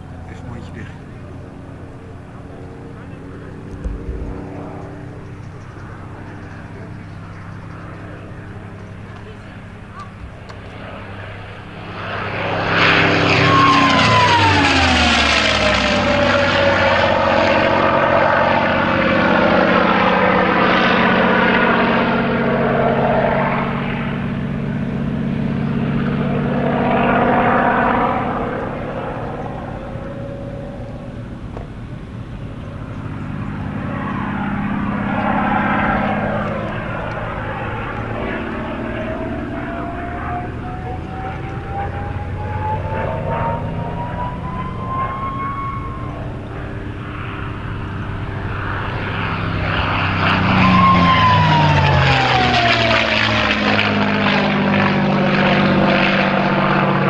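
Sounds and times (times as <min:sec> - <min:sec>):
propeller plane engine passing: 0:00.0 - 0:57.0.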